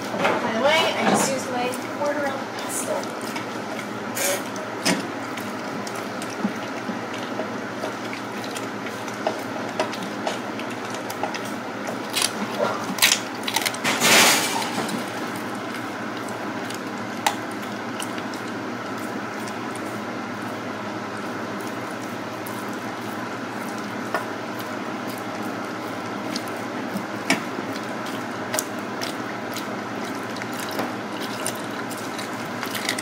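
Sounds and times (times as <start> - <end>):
dog crunching bones: 3.0 - 20.0, 21.5 - 33.0.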